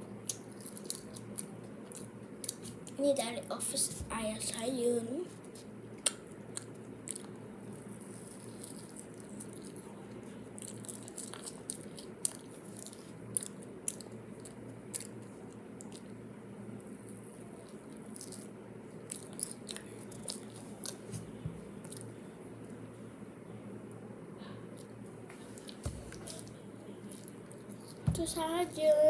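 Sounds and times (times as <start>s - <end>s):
low room hum: 0.0s - 29.0s
child chewing sweet: 0.1s - 3.1s, 5.3s - 23.1s, 24.4s - 29.0s.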